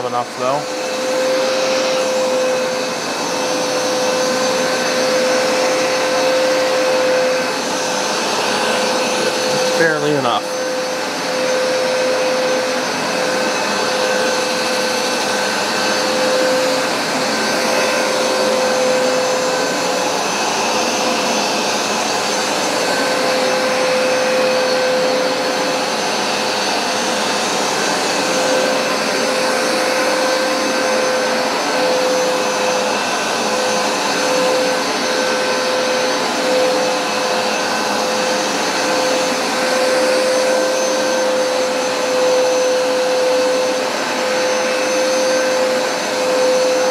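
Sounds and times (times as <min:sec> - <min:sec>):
carpet cleaner running: 0:00.0 - 0:46.9.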